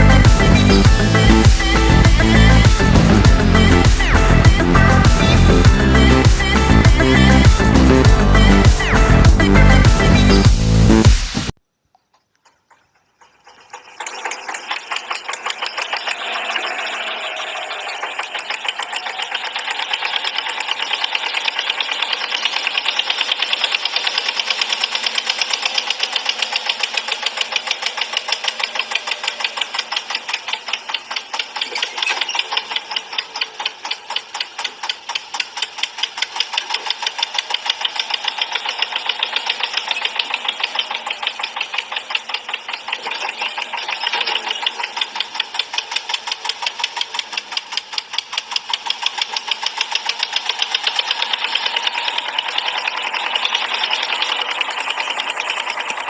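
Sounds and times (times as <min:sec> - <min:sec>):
mini tractor engine chugging: 0:00.0 - 0:10.9, 0:12.6 - 0:56.0.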